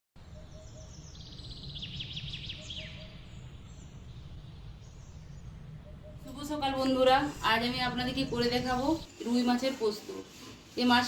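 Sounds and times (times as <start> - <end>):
low outdoor rumble: 0.2 - 9.7
small birds chirping: 0.2 - 9.8.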